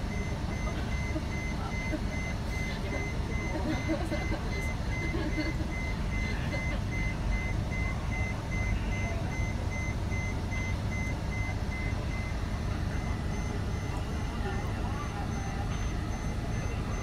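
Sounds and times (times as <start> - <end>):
low steady rumble: 0.0 - 17.0
pulsing warning beeper: 0.0 - 17.0.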